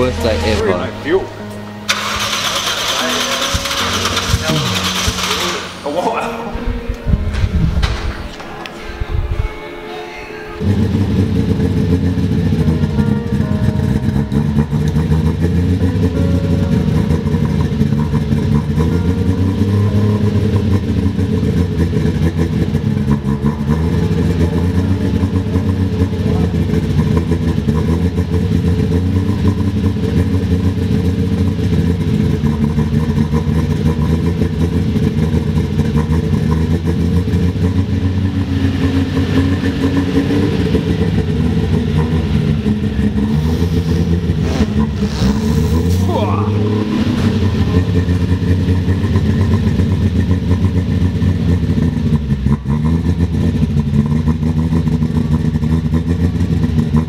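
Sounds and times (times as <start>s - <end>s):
car engine idling: 0.0s - 6.1s, 10.6s - 57.0s.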